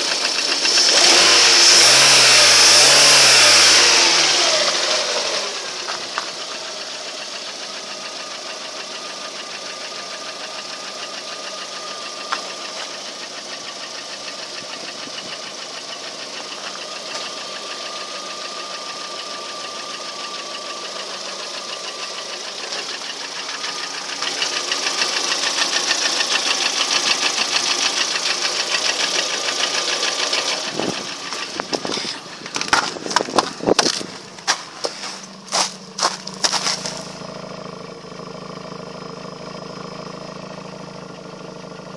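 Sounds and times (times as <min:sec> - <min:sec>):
car engine idling with knock: 0:00.0 - 0:41.9.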